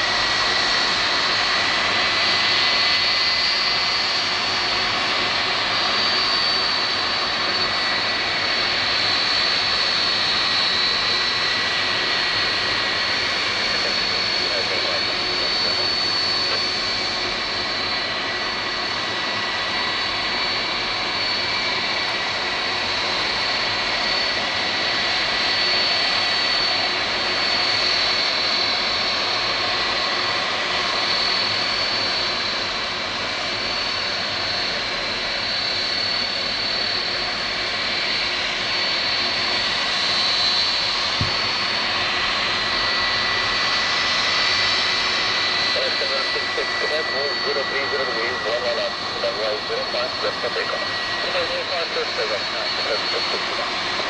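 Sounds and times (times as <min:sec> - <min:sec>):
jet engines running with whine: 0:00.0 - 0:54.0.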